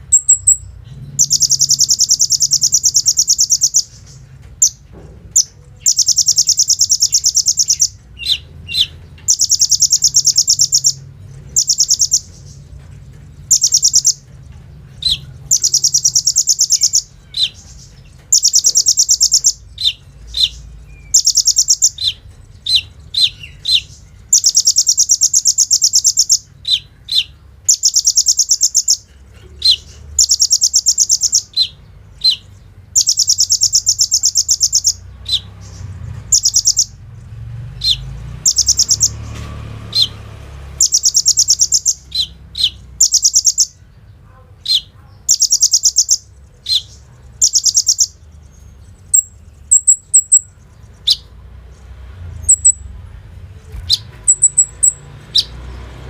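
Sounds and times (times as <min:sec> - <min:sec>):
bird sharp chirps: 0:00.0 - 0:12.7, 0:13.5 - 0:37.0, 0:37.8 - 0:53.0, 0:53.6 - 0:56.0.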